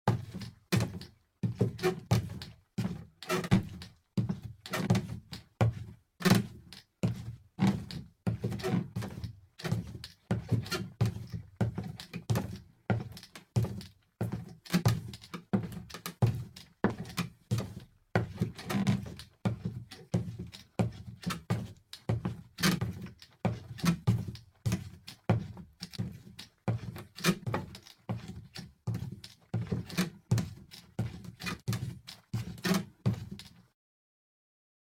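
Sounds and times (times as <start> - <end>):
footsteps on timber floor: 0.1 - 33.6.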